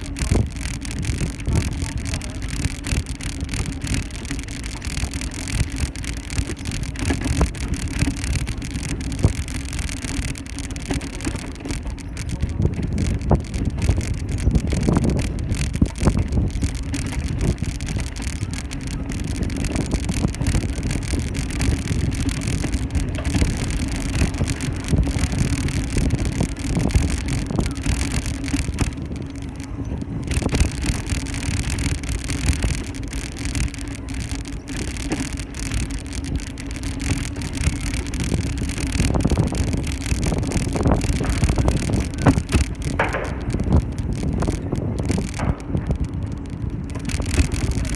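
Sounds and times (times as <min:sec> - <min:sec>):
bicycle rattling over road: 0:00.0 - 0:47.9
steady low hum: 0:00.0 - 0:47.9
wind rumbling on microphone: 0:00.0 - 0:47.9.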